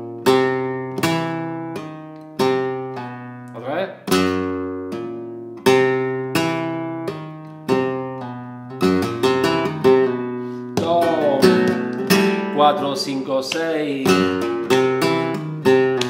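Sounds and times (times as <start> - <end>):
flamenco guitar playing: 0.0 - 16.0.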